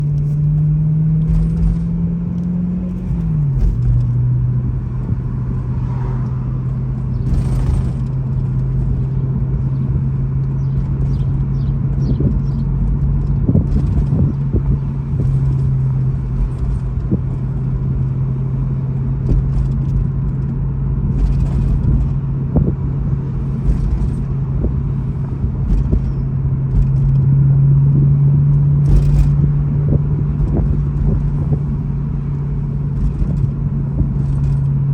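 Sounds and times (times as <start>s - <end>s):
car engine running: 0.0s - 34.9s
metallic rattles and clicks: 0.0s - 34.9s
road rumble: 0.0s - 34.9s.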